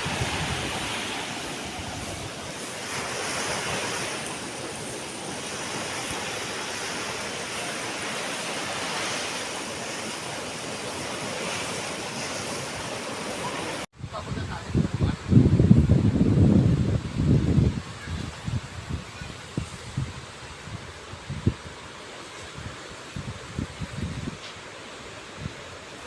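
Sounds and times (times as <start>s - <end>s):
ocean waves washing on shore: 0.0s - 26.0s.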